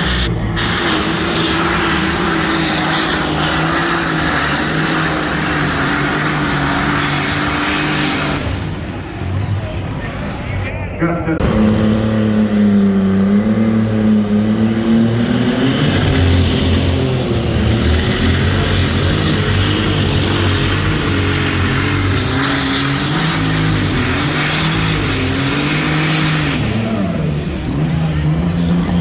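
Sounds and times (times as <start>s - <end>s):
pulling machine engine running hard: 0.0s - 29.0s.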